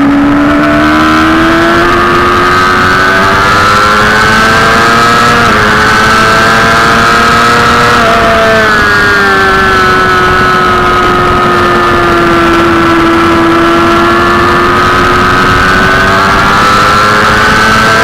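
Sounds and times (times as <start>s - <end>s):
loud wind rush: 0.0s - 18.0s
motorcycle engine at full throttle: 0.0s - 18.0s.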